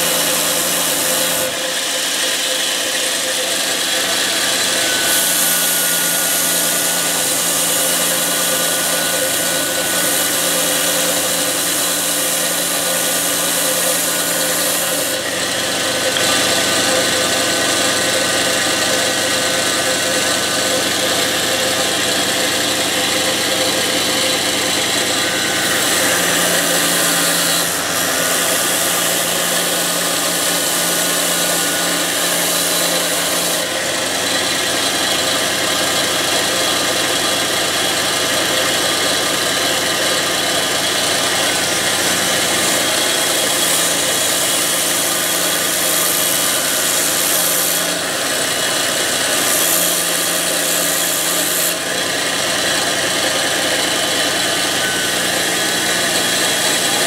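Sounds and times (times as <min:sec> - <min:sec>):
belt sander grinding: 0:00.0 - 0:57.0.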